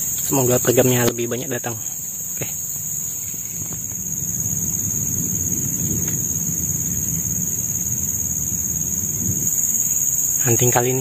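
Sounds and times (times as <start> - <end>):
forest insects droning: 0.0 - 11.0
low rumbling noise: 0.0 - 11.0.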